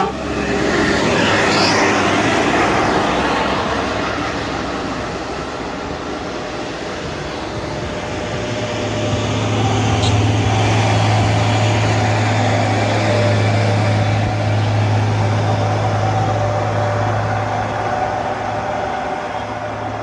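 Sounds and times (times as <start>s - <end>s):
diesel engine labouring uphill: 0.0s - 20.0s.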